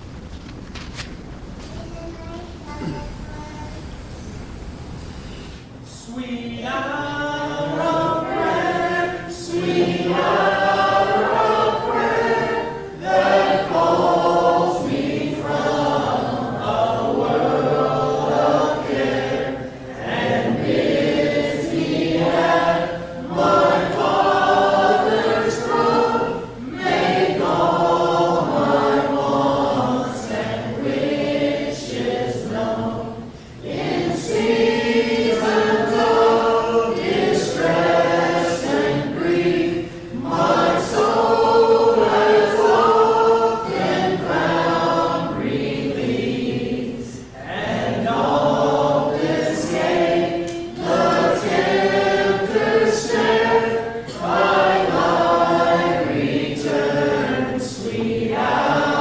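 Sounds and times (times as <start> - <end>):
congregation singing a hymn: 5.1 - 59.0.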